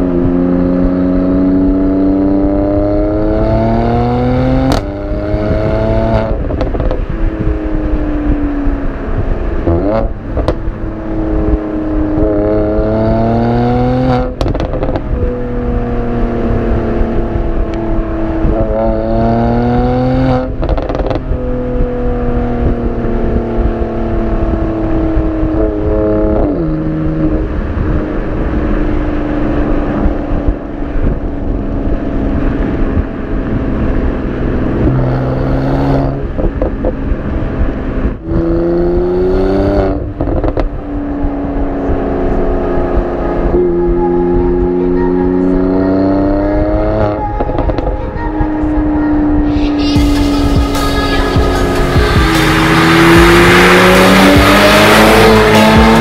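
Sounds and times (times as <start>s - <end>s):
car exhaust accelerating: 0.0s - 56.0s.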